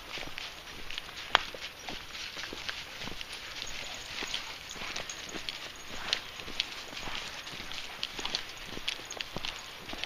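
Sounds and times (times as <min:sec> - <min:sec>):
footsteps on outdoor path: 0:00.0 - 0:10.0.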